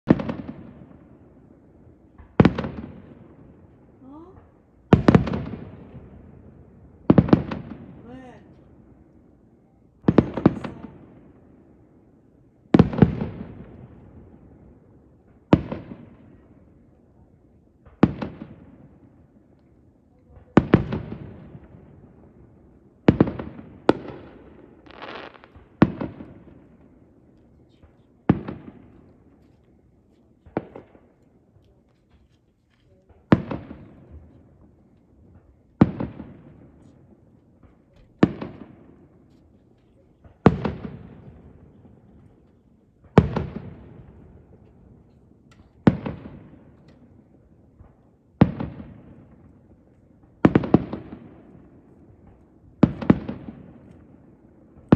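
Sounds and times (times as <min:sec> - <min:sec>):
fireworks bangs with rumbling echo: 0:00.1 - 0:32.0, 0:32.9 - 0:54.9.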